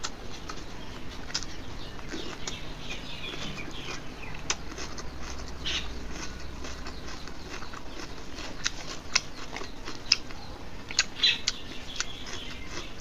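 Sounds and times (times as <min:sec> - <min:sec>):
wet chewing and mouth smacks: 0:00.0 - 0:13.0
small mouth clicks: 0:01.2 - 0:13.0.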